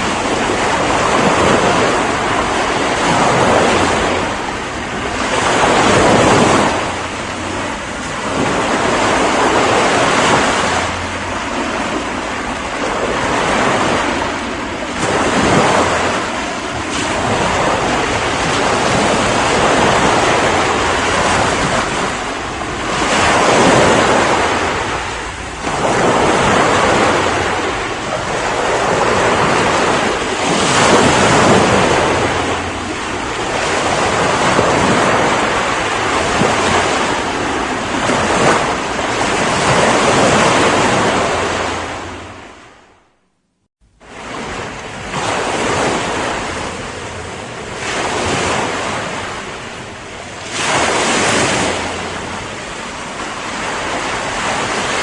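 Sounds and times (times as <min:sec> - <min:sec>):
ocean waves breaking: 0:00.0 - 0:43.1, 0:43.9 - 0:55.0.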